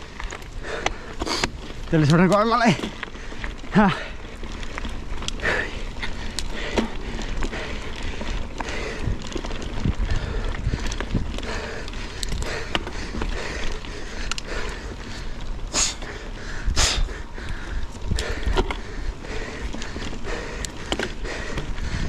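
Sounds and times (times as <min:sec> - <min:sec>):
bike rattling and knocking: 0:00.0 - 0:22.0
bike tyres rolling over dirt: 0:00.0 - 0:22.0
wind rumble on microphone: 0:02.9 - 0:22.0.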